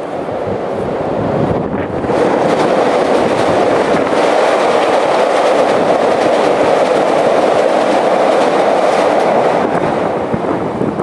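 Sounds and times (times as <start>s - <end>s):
elevated train rumbling past: 0.0s - 11.0s.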